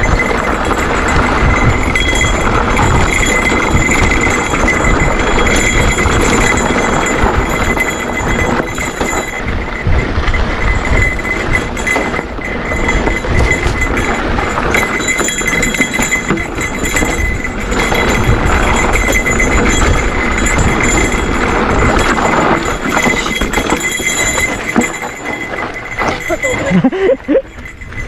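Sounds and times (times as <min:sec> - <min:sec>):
mountain bike rattling over trail: 0:00.0 - 0:28.0
wind buffeting microphone: 0:00.0 - 0:28.0.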